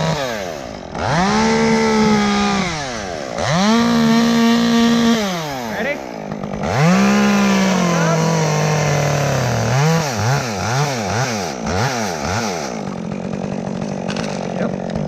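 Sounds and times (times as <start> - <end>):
chainsaw revving and cutting wood: 0.0 - 15.0.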